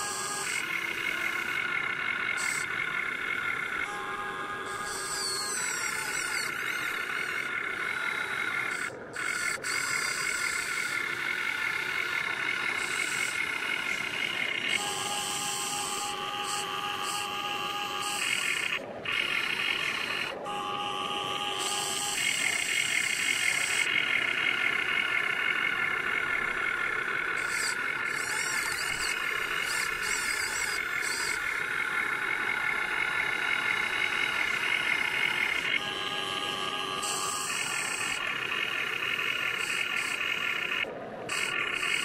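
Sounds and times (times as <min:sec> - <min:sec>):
electric motors and gearboxes whining: 0:00.0 - 0:42.0.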